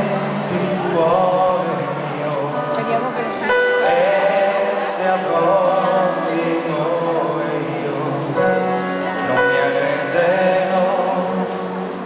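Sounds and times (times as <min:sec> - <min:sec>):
man singing into microphone: 0:00.0 - 0:12.0
musical accompaniment: 0:00.0 - 0:12.0.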